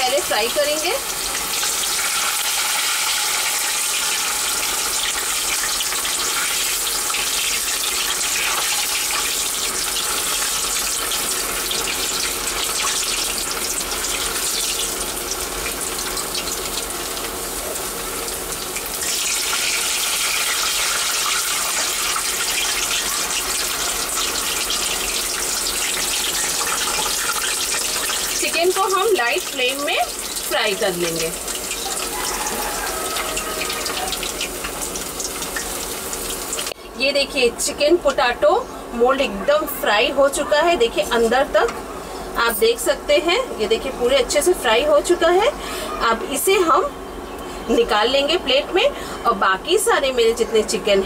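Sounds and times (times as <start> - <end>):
oil sizzling while deep-frying: 0.0 - 45.6.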